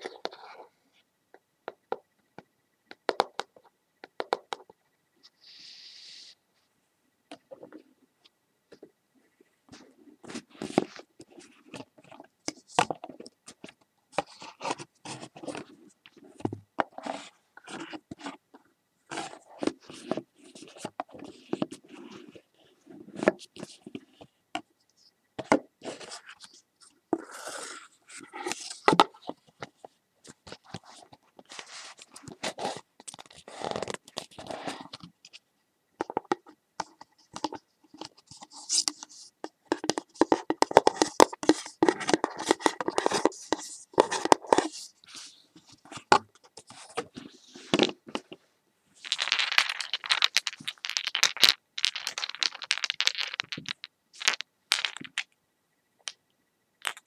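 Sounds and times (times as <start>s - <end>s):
crinkling and scraping handling sounds: 0.0s - 55.4s.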